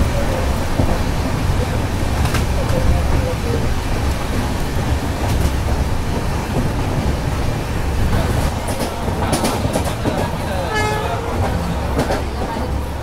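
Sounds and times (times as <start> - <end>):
train coach rumbling on track: 0.0 - 13.0.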